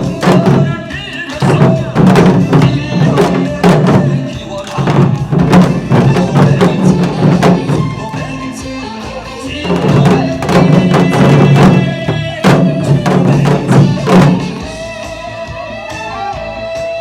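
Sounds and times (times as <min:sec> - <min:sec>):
hourglass drums rapid strikes: 0:00.0 - 0:08.8, 0:09.5 - 0:15.0
recorded pop song: 0:00.0 - 0:17.0.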